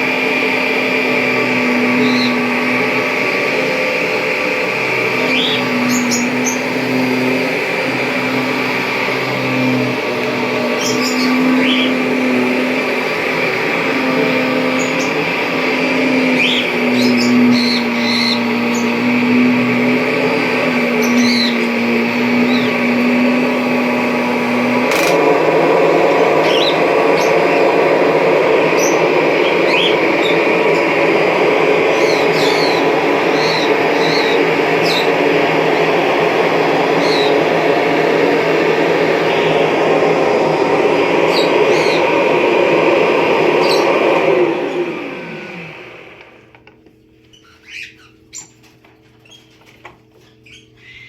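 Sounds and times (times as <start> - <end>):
upright vacuum cleaner running: 0.0 - 51.0.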